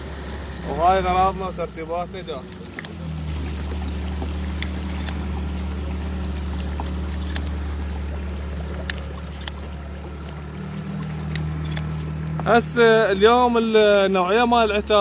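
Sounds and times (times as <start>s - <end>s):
small boat motor droning: 0.0s - 15.0s.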